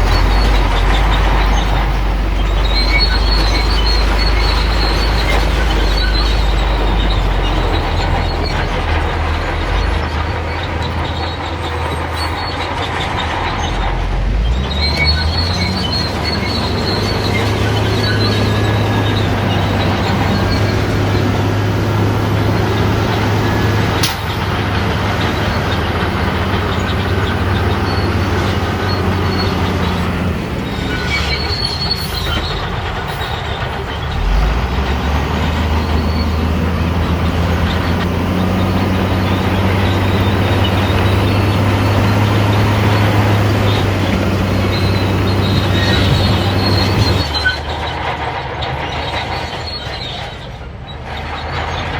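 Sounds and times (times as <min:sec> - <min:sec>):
bulldozer diesel engine: 0:00.0 - 0:51.9
steel tracks squealing and clanking: 0:00.0 - 0:51.9.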